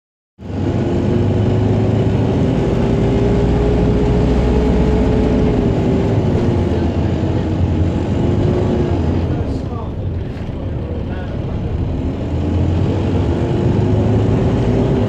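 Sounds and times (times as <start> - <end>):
bus engine and road rumble: 0.4 - 15.0.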